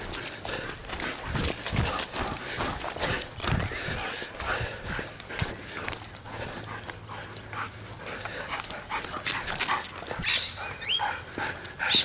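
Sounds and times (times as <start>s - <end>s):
dog paws clicking on pavement: 0.0s - 12.0s.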